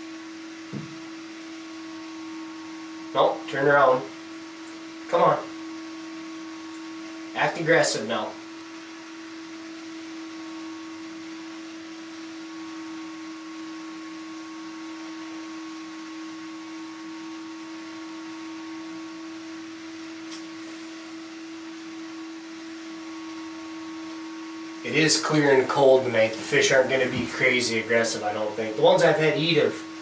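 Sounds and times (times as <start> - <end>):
motor or fan humming: 0.0 - 30.0.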